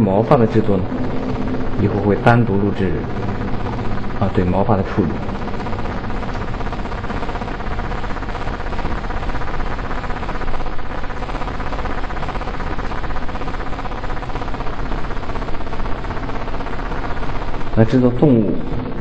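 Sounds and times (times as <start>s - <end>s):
milling machine running with whine: 0.0s - 19.0s.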